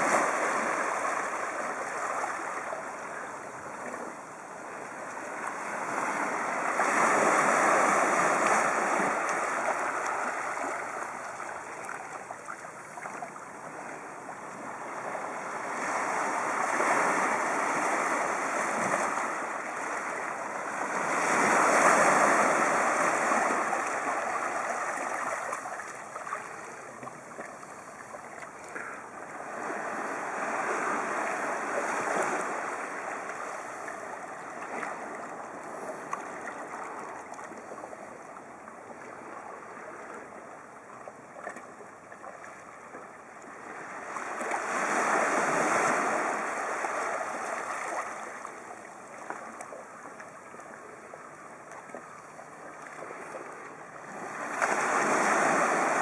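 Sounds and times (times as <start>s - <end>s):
waves washing over pebbles: 0.0s - 37.8s, 43.1s - 52.1s, 52.7s - 56.0s.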